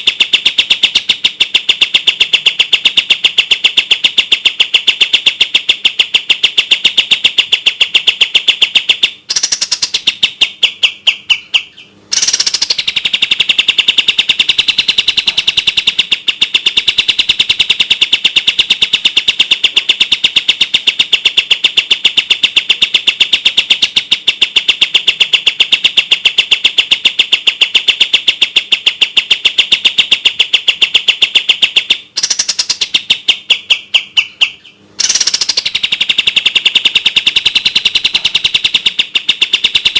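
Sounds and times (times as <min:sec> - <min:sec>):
songbird singing rapid high notes: 0:00.0 - 0:26.6, 0:29.7 - 0:39.9.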